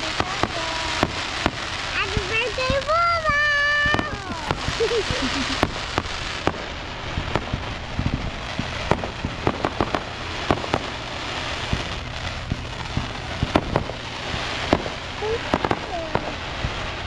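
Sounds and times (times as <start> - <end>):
fireworks bangs and pops: 0.0 - 17.0
steady hiss: 0.0 - 17.0.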